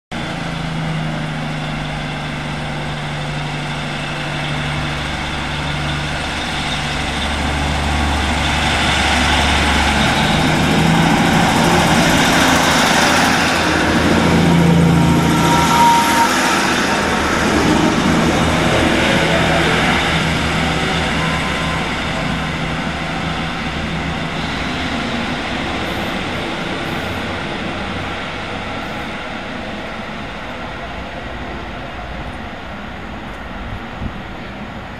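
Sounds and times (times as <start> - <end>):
diesel train engine: 0.1 - 34.9
rail noise: 0.1 - 34.9.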